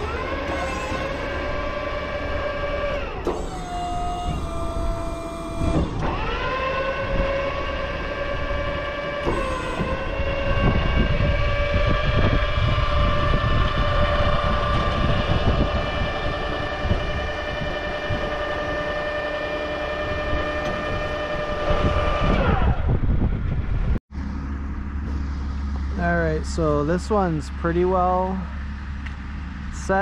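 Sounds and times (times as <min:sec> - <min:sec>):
crane motor whining: 0:00.0 - 0:27.5.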